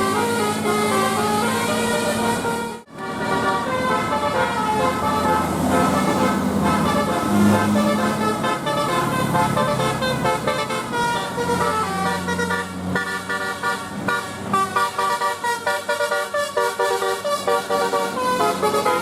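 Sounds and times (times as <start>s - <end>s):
bus engine running: 0.0s - 19.0s
bus horn playing a tune: 0.0s - 19.0s.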